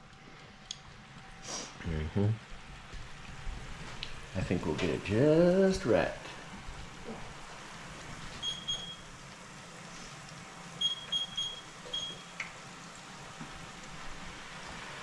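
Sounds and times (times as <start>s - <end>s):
fries bubbling in deep fryer: 0.0s - 15.0s.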